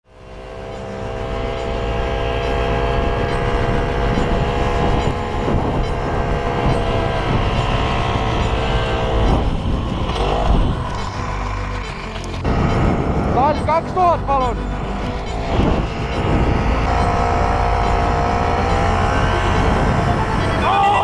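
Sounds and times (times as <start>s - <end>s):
snowmobile engine running: 0.0s - 21.0s
wind rumbling on microphone: 1.8s - 21.0s.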